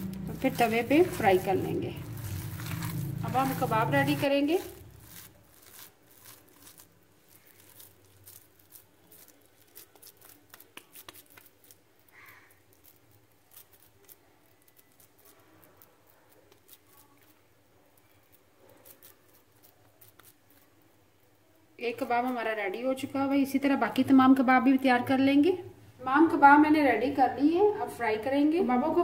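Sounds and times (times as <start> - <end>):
wet hands shaping meat: 0.0 - 23.7.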